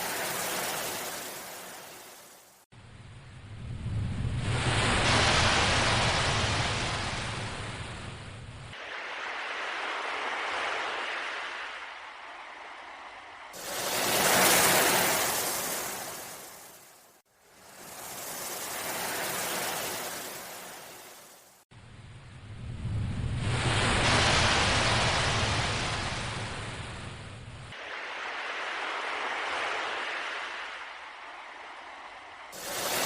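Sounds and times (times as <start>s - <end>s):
ocean waves surging: 0.0s - 2.6s, 4.4s - 8.1s, 8.8s - 21.6s, 23.4s - 27.2s, 27.8s - 33.0s.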